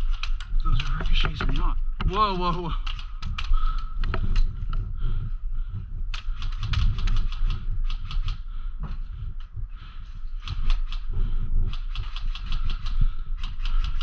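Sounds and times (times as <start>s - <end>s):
low rumble: 0.0s - 13.3s.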